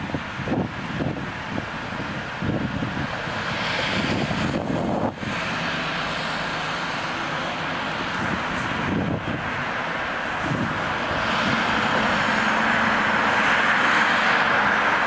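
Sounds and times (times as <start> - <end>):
wind on microphone: 0.0 - 6.4, 7.9 - 15.0
distant traffic rumble: 0.0 - 15.0.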